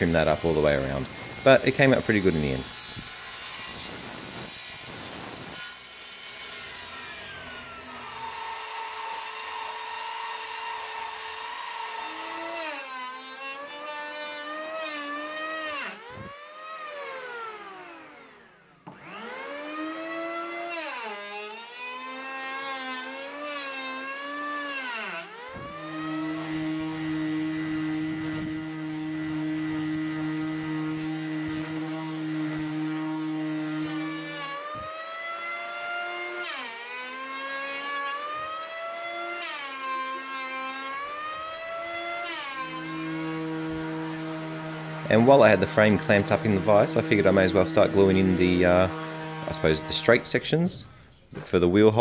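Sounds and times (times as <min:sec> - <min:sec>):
electric hand planer whine: 0:00.0 - 0:50.5
random orbital sander running: 0:00.0 - 0:50.5.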